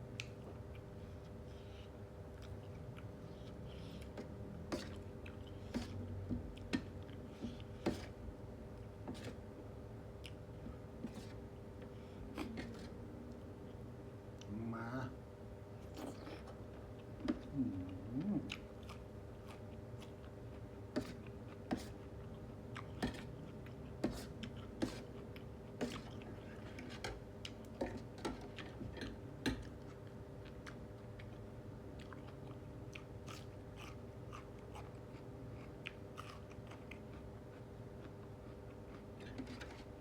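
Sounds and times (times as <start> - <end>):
person chewing food: 0.1 - 9.4, 10.1 - 14.5, 15.8 - 39.9.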